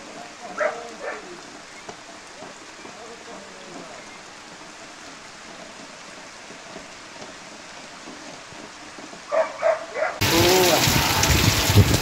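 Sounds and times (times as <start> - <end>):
rain falling on puddles: 0.0 - 12.0.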